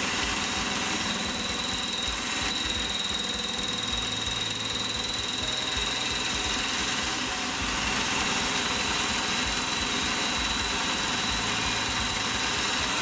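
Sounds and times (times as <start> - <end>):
milling machine running: 0.0 - 13.0
cutter chattering on brass: 0.8 - 7.2, 8.2 - 13.0.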